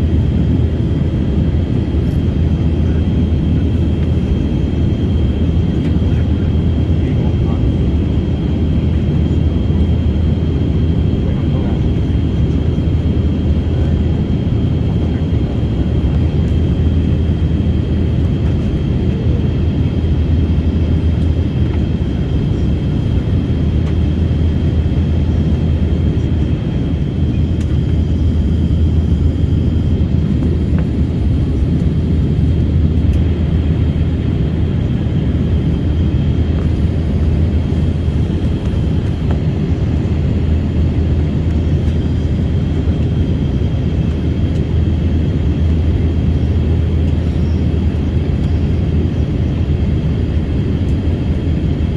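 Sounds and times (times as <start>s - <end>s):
engine and airflow drone: 0.0s - 51.9s.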